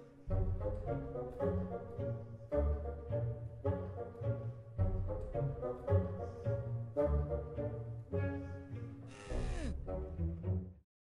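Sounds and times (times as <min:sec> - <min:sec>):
instrumental background music: 0:00.0 - 0:10.8.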